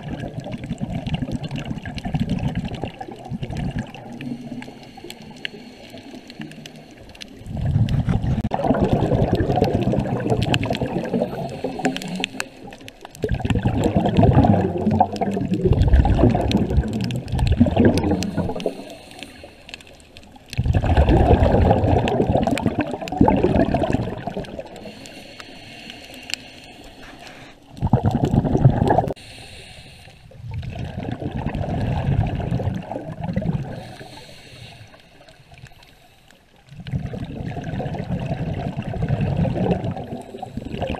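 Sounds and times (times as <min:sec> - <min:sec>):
exhaled breath bubbling underwater: 0:00.0 - 0:40.9.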